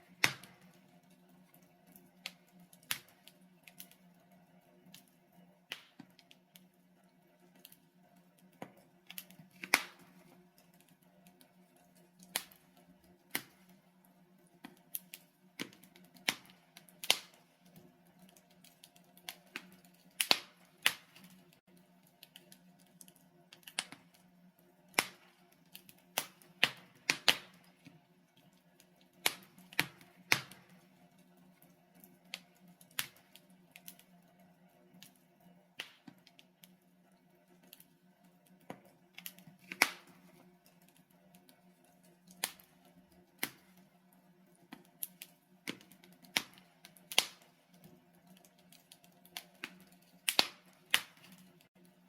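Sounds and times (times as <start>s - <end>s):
fire crackling pops and snaps: 0.0s - 52.0s.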